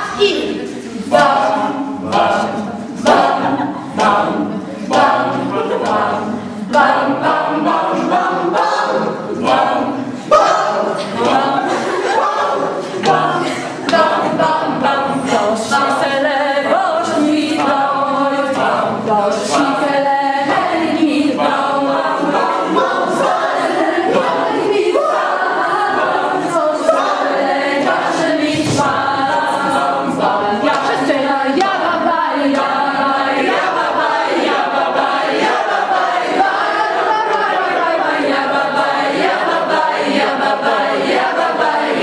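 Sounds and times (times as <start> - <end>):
group singing without instruments: 0.0 - 42.0.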